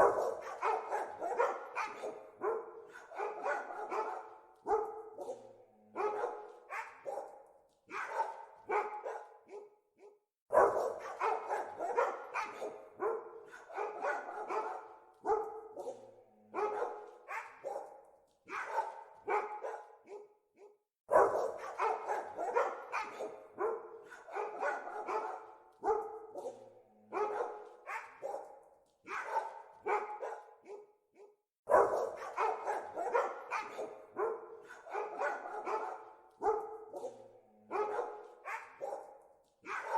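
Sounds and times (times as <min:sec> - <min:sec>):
dogs barking: 0:00.0 - 0:39.9.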